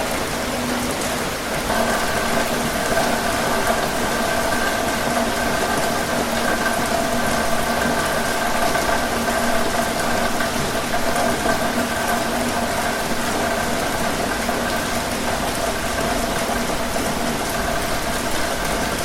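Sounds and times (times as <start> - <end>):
rain hiss: 0.0 - 19.0
steady mechanical hum: 0.0 - 19.0.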